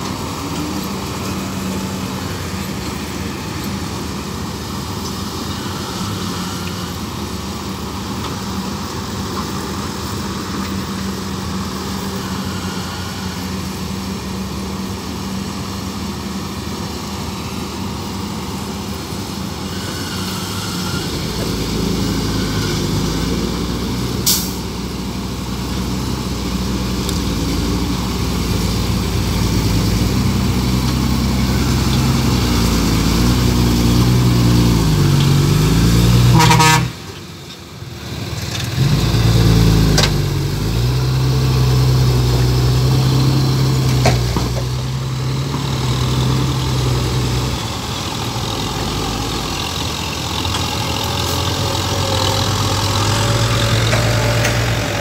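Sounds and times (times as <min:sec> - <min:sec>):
dump truck engine under load: 0:00.0 - 0:55.0
tractor diesel engine under load: 0:00.0 - 0:55.0.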